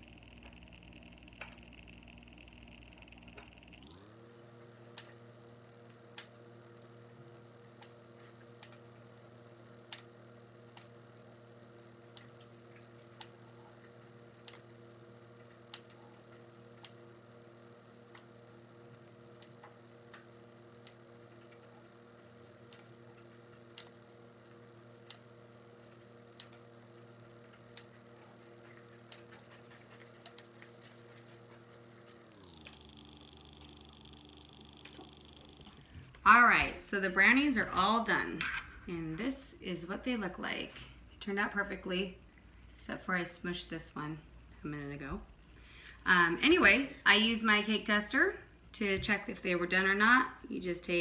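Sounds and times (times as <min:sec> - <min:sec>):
electrical hum with high whine: 0:00.0 - 0:51.0.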